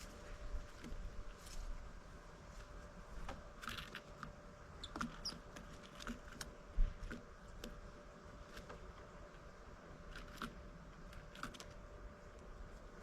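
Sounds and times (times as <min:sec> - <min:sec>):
birds pecking at seeds: 0:00.0 - 0:13.0.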